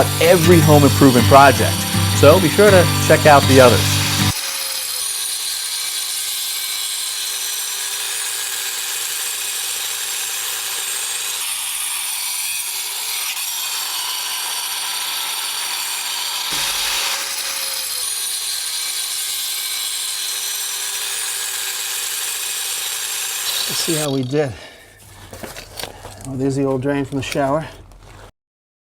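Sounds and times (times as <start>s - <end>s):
grinder cutting metal pipe: 0.0s - 24.5s.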